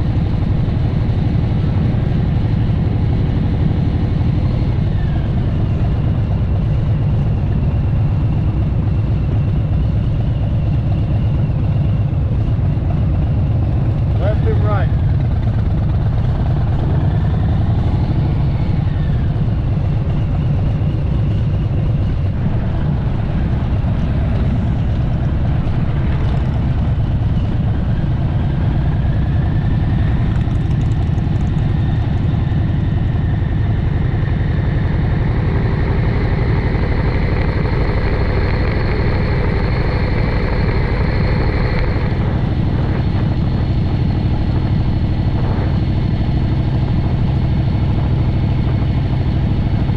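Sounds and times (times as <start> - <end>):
vehicle engine and road rumble: 0.0 - 49.9.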